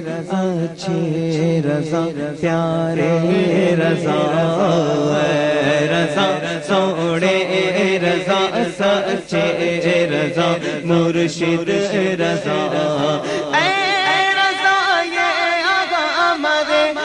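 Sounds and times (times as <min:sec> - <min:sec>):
man singing into a microphone: 0:00.0 - 0:17.0
backing voices chanting drone: 0:02.9 - 0:17.0.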